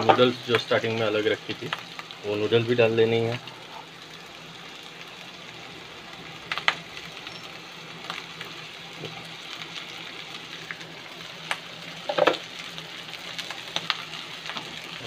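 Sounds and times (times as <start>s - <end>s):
rice frying in a pan: 0.0s - 15.0s.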